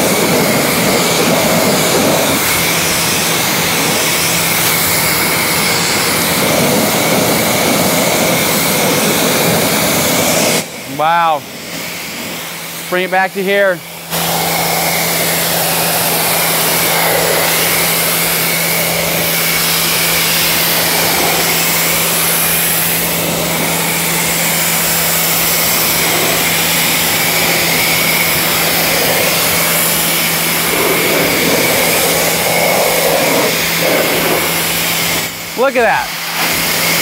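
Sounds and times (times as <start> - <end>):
pressure washer motor hum: 0.0 - 37.0
water spray hissing on car: 0.0 - 37.0.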